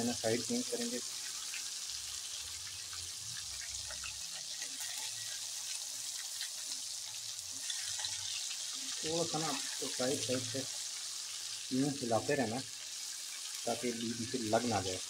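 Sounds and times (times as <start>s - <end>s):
fish deep-frying in sizzling oil: 0.0s - 15.0s.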